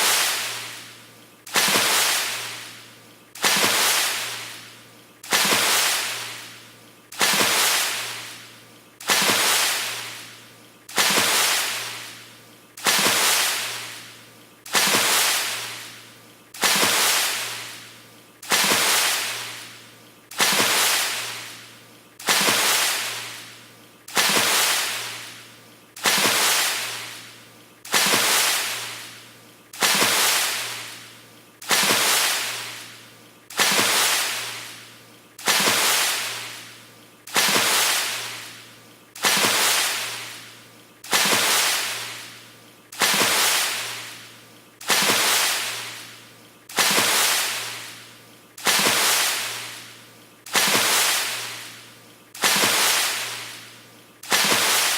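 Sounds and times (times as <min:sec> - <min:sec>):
water splash: 0:00.0 - 0:00.9, 0:01.5 - 0:16.0, 0:16.6 - 0:25.4, 0:26.0 - 0:27.3, 0:27.9 - 0:29.2, 0:29.8 - 0:38.6, 0:39.2 - 0:42.4, 0:43.0 - 0:49.9, 0:50.5 - 0:51.8, 0:52.4 - 0:54.9.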